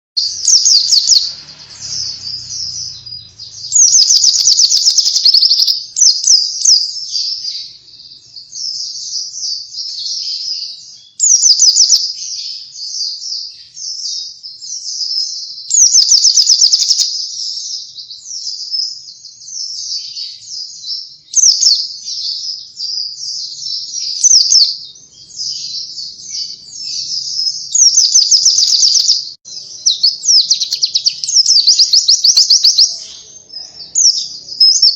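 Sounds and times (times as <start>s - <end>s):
bird twittering and trilling: 0.2s - 34.9s.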